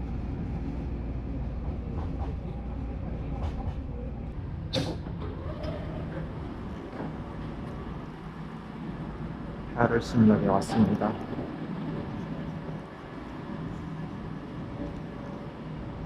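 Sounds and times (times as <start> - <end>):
train car rumbling on track: 0.0 - 16.0.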